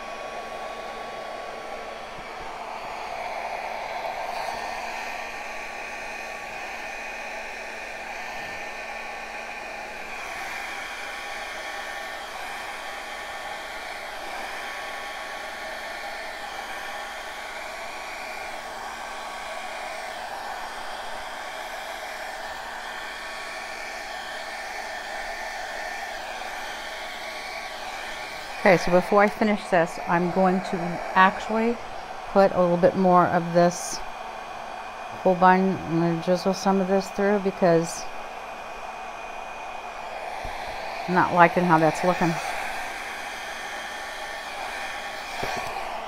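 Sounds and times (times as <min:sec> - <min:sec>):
blow dryer running: 0:00.0 - 0:46.0.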